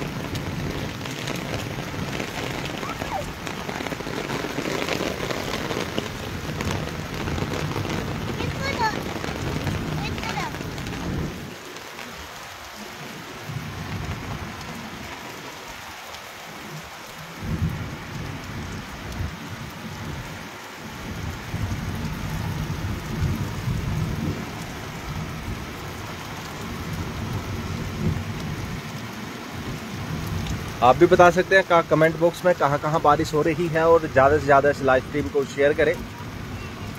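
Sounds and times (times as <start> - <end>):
heavy rain on concrete and water: 0.0 - 36.9.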